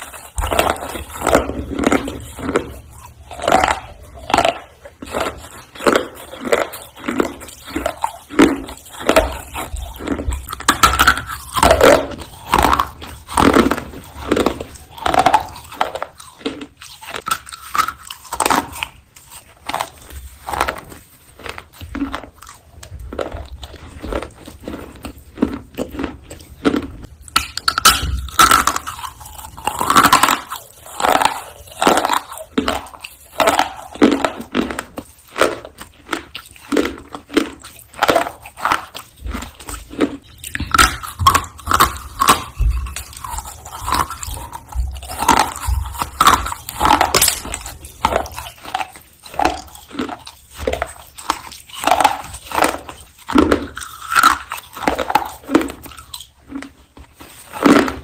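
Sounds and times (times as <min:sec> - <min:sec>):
crisp crunching bites: 0:00.0 - 0:58.0.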